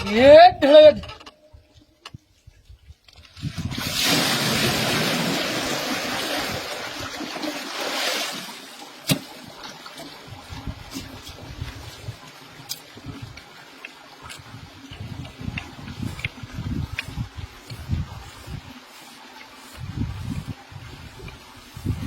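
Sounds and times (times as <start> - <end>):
water pouring and splashing: 2.3 - 22.0.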